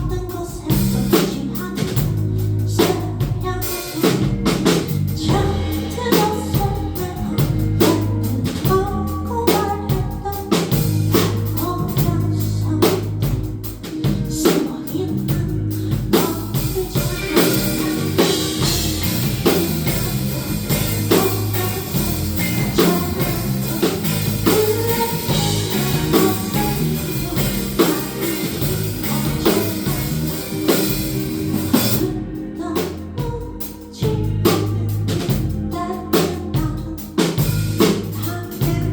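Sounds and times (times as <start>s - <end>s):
person singing: 0.0s - 37.4s, 38.1s - 38.9s
rock band playing: 0.0s - 38.9s.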